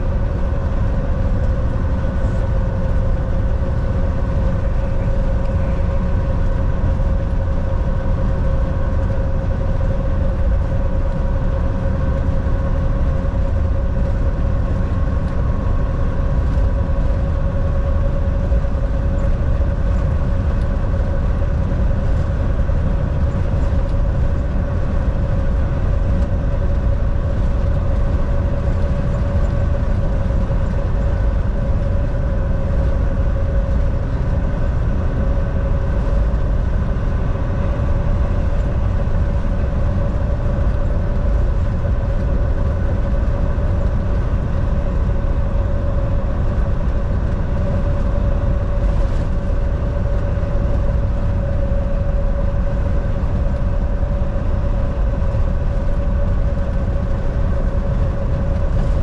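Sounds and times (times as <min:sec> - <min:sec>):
constant hum: 0:00.0 - 0:59.0
truck engine and road rumble: 0:00.0 - 0:59.0.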